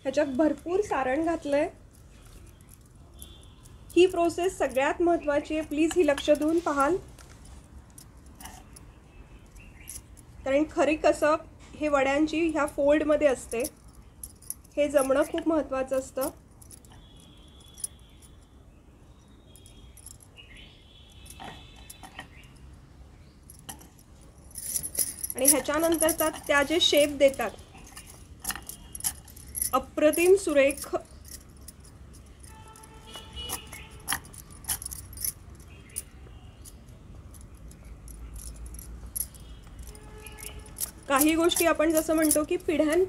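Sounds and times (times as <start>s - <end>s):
metal bangles clinking: 0.0s - 43.0s.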